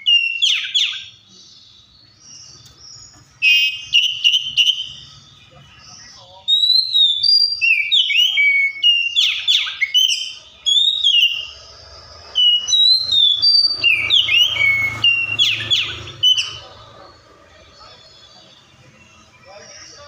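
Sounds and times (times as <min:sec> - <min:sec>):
bird singing whistled trills: 0:00.0 - 0:20.0.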